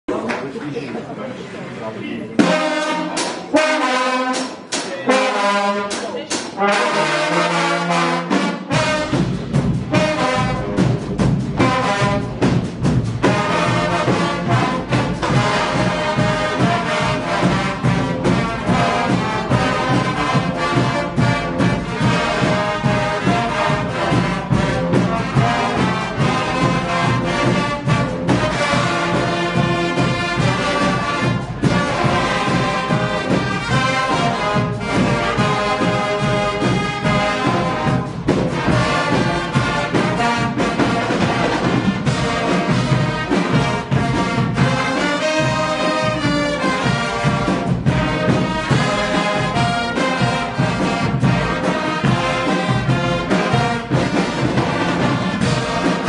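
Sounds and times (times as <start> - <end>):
brass band playing: 2.2 - 56.0.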